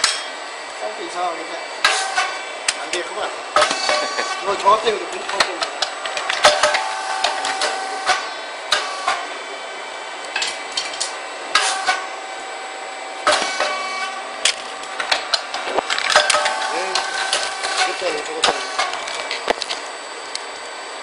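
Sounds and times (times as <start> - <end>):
steady machine whine: 0.0 - 21.0.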